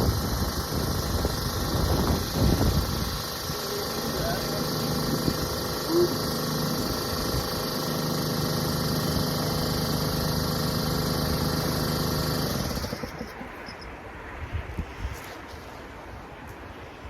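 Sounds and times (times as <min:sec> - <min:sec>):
motor humming: 0:00.0 - 0:13.8.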